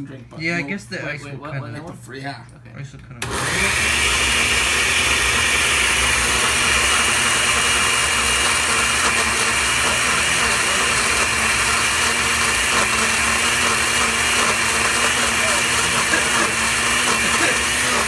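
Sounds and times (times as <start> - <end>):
blender blade churning ice: 3.2 - 18.0
blender motor whining: 3.2 - 18.0.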